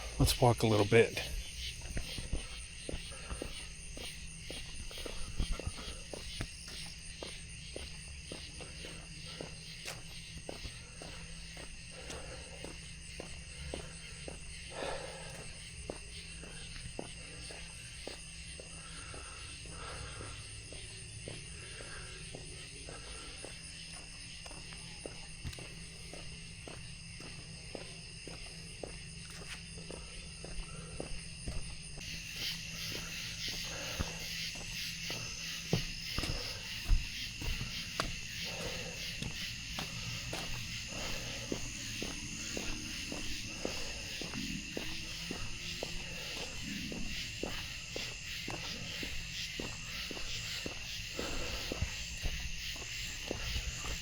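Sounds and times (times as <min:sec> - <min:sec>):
footsteps walking: 0:00.0 - 0:54.0
night insects trilling: 0:00.0 - 0:54.0.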